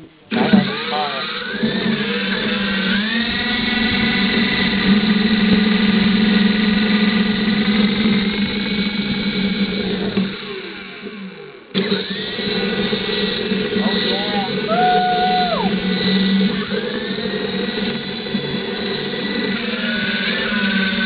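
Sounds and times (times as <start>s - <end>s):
rc helicopter motor whining: 0.3s - 21.0s.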